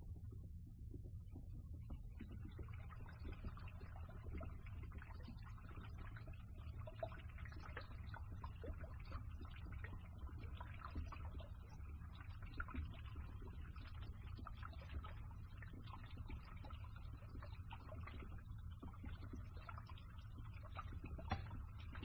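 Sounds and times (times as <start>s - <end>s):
water gurgling through a pipe: 0.0s - 22.0s.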